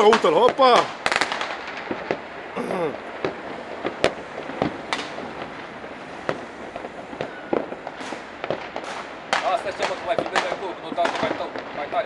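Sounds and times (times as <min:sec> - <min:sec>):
distant fireworks bangs: 0:00.0 - 0:12.0.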